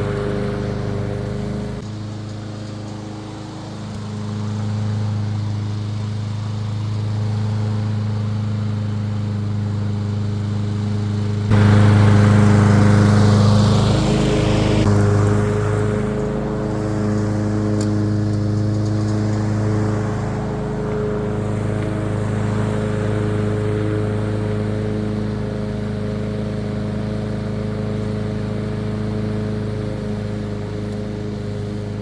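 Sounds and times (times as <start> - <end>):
lawn mower engine mowing grass: 0.0 - 32.0.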